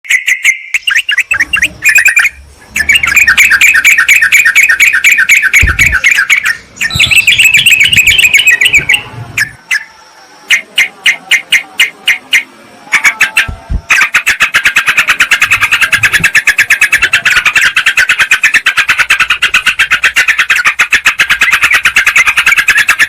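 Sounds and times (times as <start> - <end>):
sharp bird chips: 0.0 - 23.0
birds chattering: 0.1 - 23.0.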